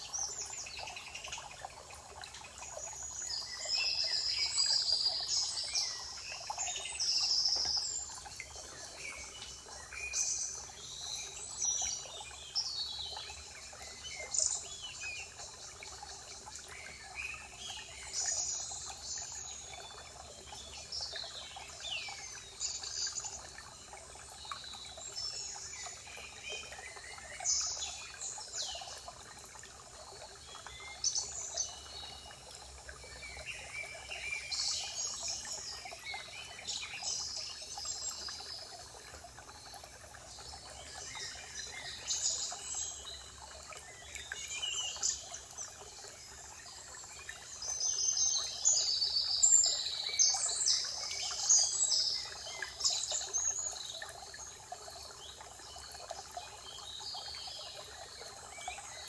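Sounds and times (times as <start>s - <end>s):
songbirds singing and chirping: 0.0s - 59.0s
trickle of running water: 0.0s - 59.0s.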